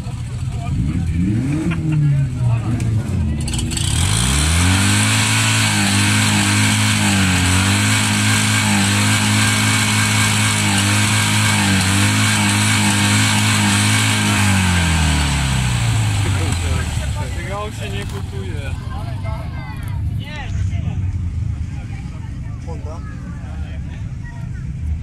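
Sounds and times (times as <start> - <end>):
car engine revving: 0.0 - 22.1.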